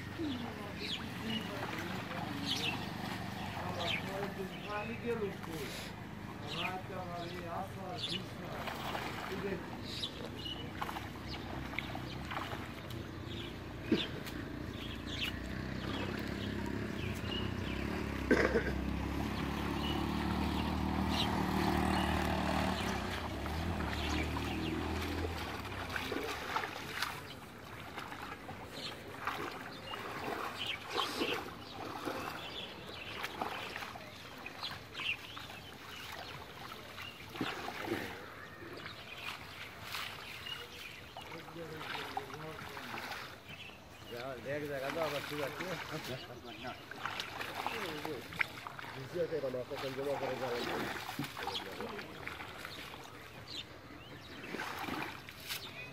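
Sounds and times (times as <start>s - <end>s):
shallow water splashing: 0.0s - 55.9s.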